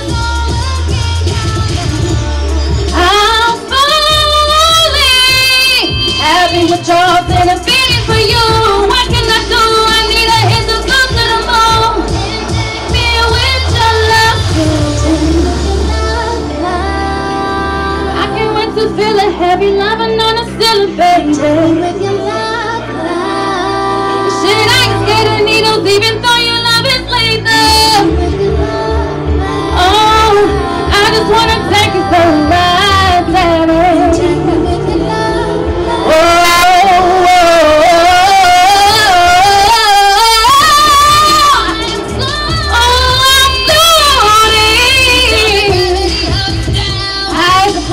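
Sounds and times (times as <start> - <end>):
live band playing: 0.0 - 47.9
woman singing into microphone: 0.0 - 47.9.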